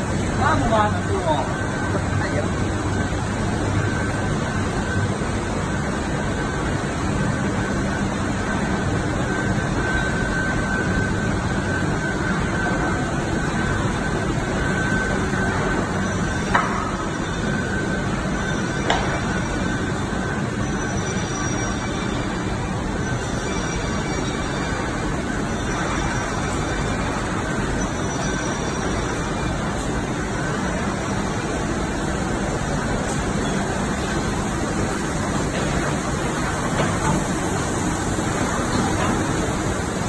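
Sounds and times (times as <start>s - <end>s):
machinery running noise: 0.0s - 40.0s.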